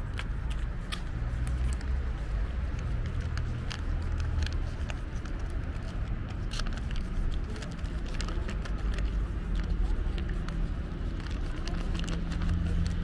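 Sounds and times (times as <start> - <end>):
steady low rumble: 0.0 - 13.0
cat chewing and licking: 0.1 - 13.0.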